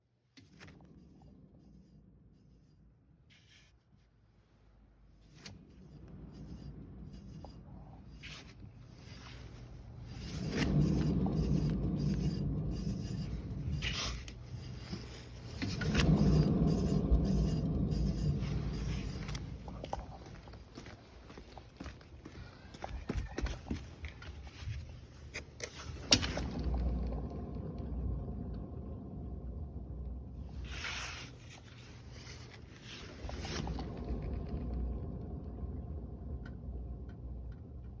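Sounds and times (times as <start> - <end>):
wheel bearing rough noise: 5.4 - 38.0.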